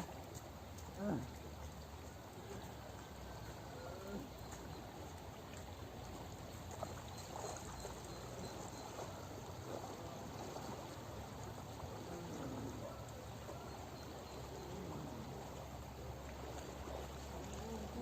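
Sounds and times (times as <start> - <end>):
rush of river water: 0.0 - 18.0.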